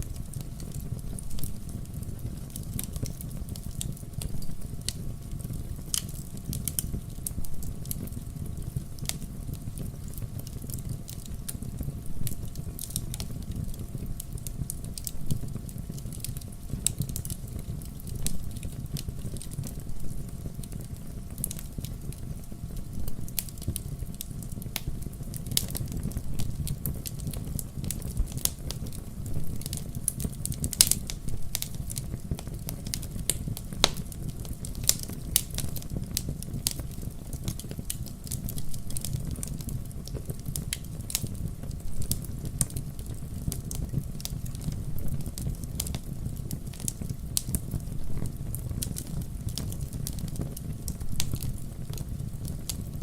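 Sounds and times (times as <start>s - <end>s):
fire pops and snaps: 0.0s - 53.0s
wood fire crackling: 0.0s - 53.0s.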